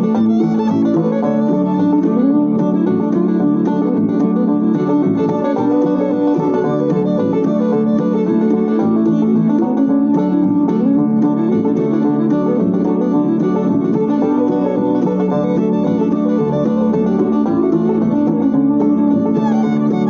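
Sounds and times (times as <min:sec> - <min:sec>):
bluegrass banjo and guitar music: 0:00.0 - 0:20.0.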